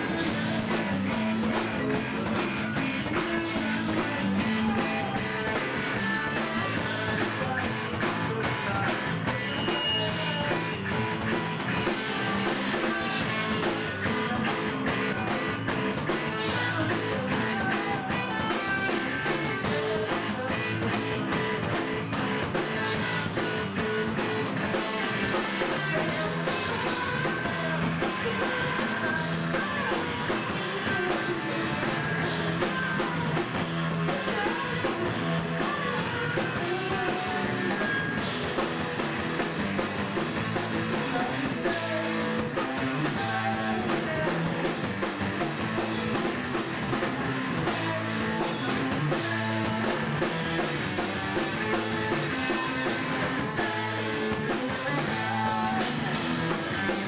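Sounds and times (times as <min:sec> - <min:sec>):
person singing into microphone: 0:00.0 - 0:38.3, 0:40.3 - 0:45.0, 0:47.1 - 0:57.0
bass guitar: 0:00.0 - 0:57.0
drum kit: 0:00.0 - 0:57.0
electric guitar: 0:00.0 - 0:57.0.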